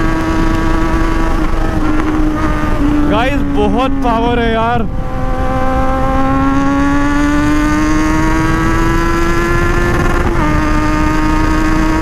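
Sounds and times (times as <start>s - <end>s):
motorcycle engine accelerating: 0.0s - 12.0s
wind rush on microphone: 0.0s - 12.0s.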